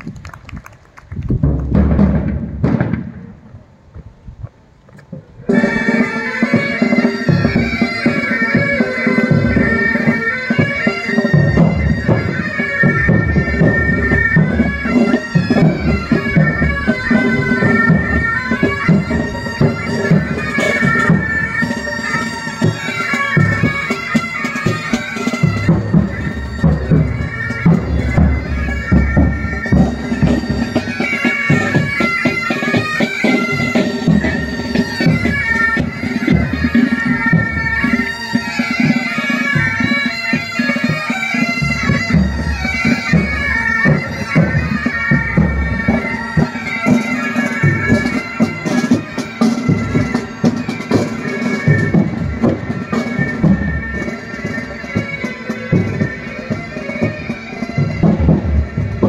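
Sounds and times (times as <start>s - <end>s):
drums beating: 0.1s - 3.4s, 5.1s - 59.0s
bagpipes playing melody: 5.4s - 59.0s.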